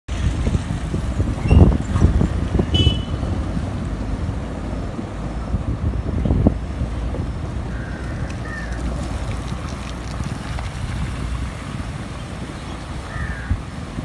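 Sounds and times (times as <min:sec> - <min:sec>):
motorbikes driving through water: 0:00.1 - 0:14.0
truck driving through water: 0:00.1 - 0:14.0
wind rumbling on microphone: 0:00.1 - 0:14.0.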